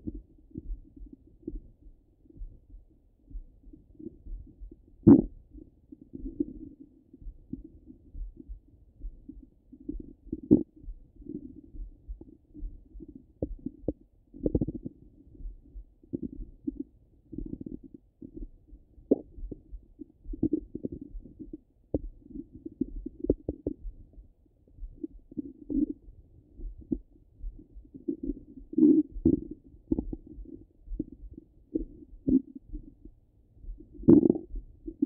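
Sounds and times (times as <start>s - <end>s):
stomach gurgling and rumbling: 0.0s - 35.0s.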